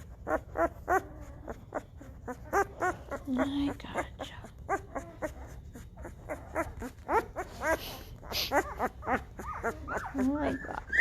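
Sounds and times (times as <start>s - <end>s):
puppies squealing and whining: 0.0s - 11.0s.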